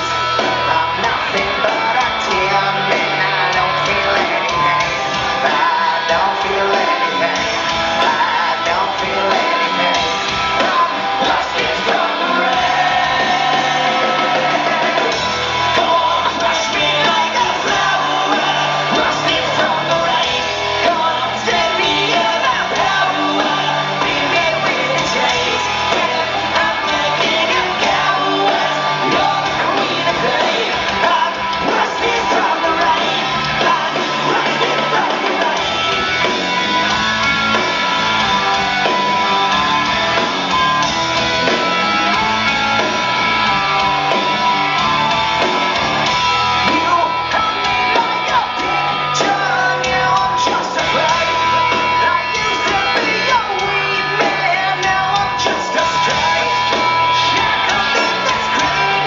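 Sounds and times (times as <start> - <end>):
live rock band playing: 0.0 - 59.0
singer shouting and singing: 0.0 - 59.0.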